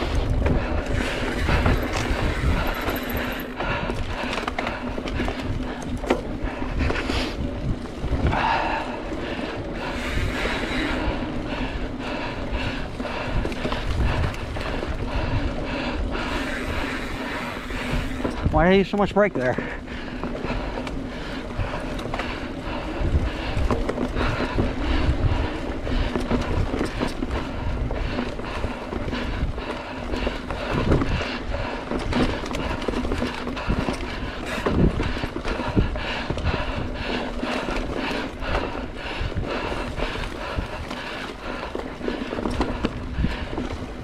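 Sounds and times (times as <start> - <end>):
mountain bike rattling on dirt trail: 0.0 - 44.0
tyre noise: 0.0 - 44.0
wind: 0.0 - 44.0.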